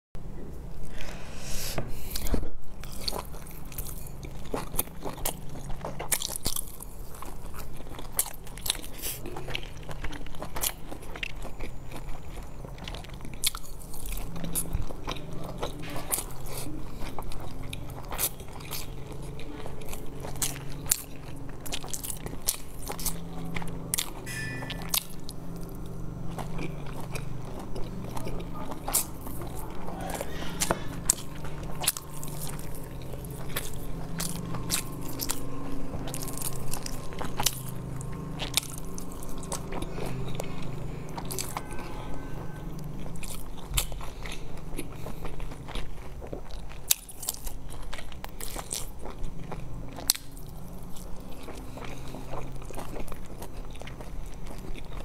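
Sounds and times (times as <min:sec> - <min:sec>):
steady low hum: 0:00.2 - 0:55.0
person biting and chewing: 0:00.8 - 0:55.0.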